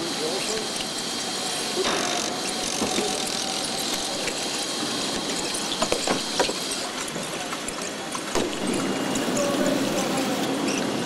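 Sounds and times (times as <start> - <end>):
factory hiss with high whine: 0.0 - 11.0.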